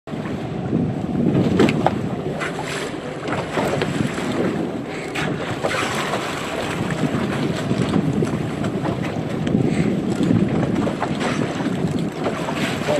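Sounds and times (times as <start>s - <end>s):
water rushing along boat: 0.1s - 12.9s
wind buffeting microphone: 0.1s - 12.9s.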